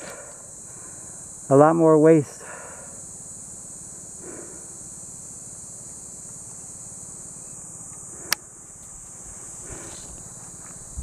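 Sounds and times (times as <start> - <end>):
insects droning in chorus: 0.0 - 11.0.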